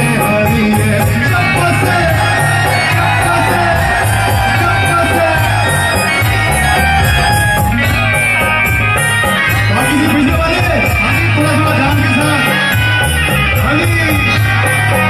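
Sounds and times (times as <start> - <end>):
amplified live music: 0.0 - 15.0.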